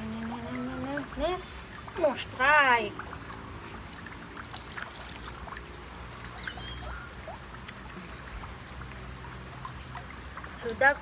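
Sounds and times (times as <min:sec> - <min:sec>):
light rain pattering: 0:00.0 - 0:11.0
low steady rumble: 0:00.0 - 0:11.0.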